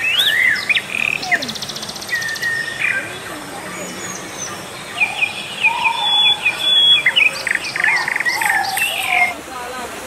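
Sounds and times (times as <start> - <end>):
lower whistled bird notes: 0.0 - 9.4.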